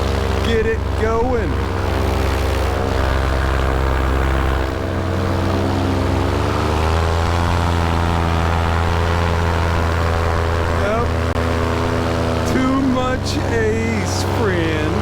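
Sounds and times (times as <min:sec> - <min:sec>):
paramotor engine and propeller drone: 0:00.0 - 0:15.0.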